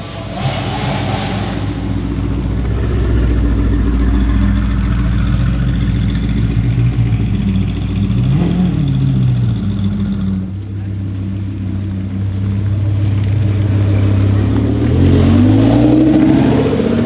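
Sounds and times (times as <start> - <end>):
car engine idling: 0.0 - 17.0
engine revving: 0.0 - 17.0.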